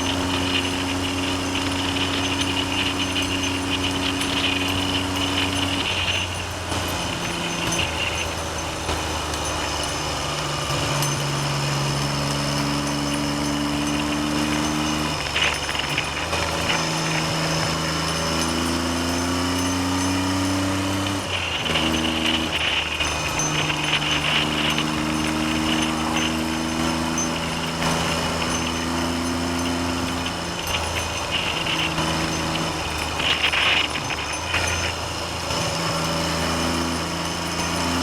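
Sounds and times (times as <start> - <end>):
motorcycle engine accelerating: 0.0 - 38.0
wind noise on microphone: 0.0 - 38.0.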